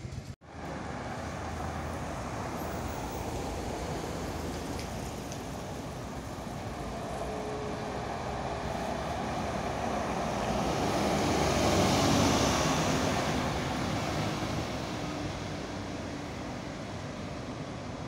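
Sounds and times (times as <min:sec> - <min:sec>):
bus driving past: 0:00.1 - 0:18.0.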